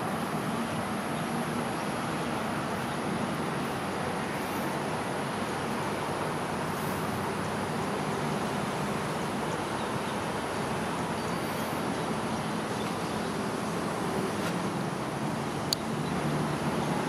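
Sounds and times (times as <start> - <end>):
distant traffic hiss: 0.0 - 17.0.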